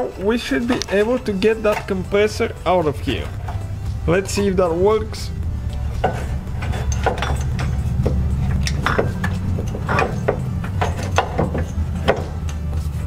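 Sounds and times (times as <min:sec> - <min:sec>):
steady low hum: 0:00.0 - 0:13.0
metal clunks and knocks: 0:00.6 - 0:12.8.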